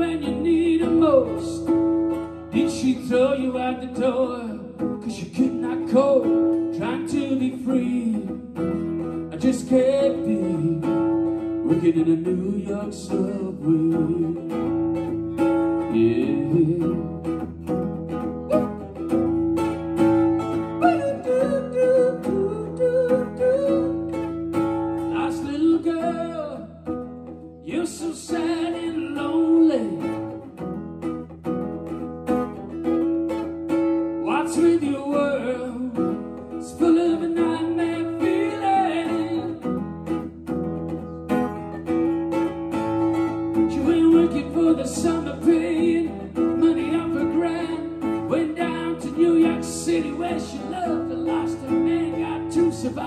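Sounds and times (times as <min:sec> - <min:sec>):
man singing: 0:00.0 - 0:17.6, 0:20.0 - 0:26.9, 0:27.6 - 0:30.5, 0:33.9 - 0:39.8, 0:43.1 - 0:53.0
acoustic guitar: 0:00.0 - 0:53.0.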